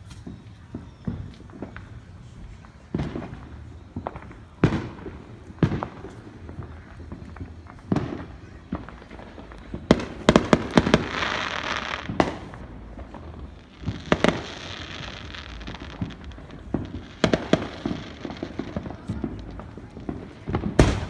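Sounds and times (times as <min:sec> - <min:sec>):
fireworks bangs: 0:00.0 - 0:21.0
fireworks crackling hiss: 0:00.0 - 0:21.0.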